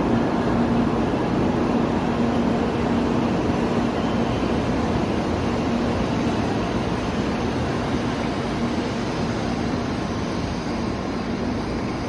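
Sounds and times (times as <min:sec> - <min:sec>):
train interior running noise: 0:00.0 - 0:12.0.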